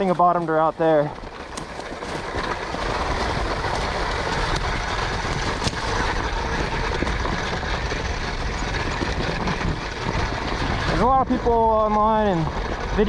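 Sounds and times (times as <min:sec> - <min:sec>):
wind and tyre noise: 0:00.0 - 0:13.0.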